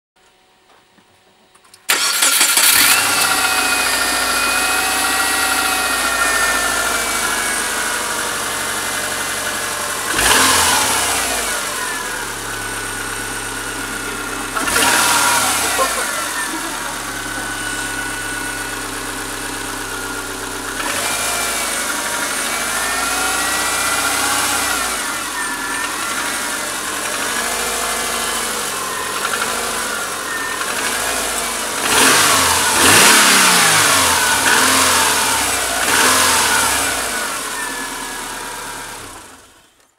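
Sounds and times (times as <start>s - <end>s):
engine clicking noise: 1.6s - 39.9s
car engine revving and idling: 1.9s - 39.9s.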